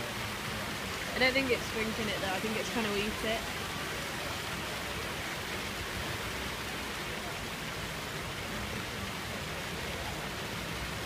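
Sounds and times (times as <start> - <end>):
fountain jets splashing on paving: 0.0 - 11.0.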